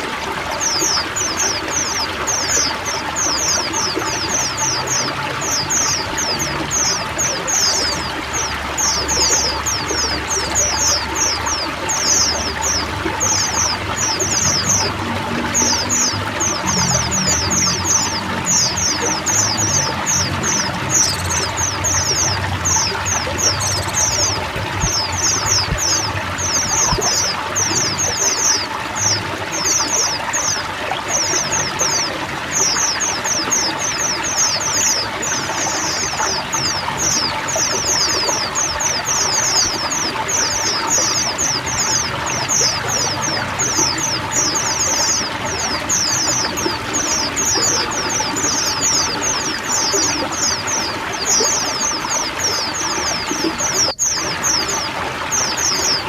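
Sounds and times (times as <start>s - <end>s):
flock of birds chirping: 0.0s - 56.0s
running water: 0.0s - 56.0s.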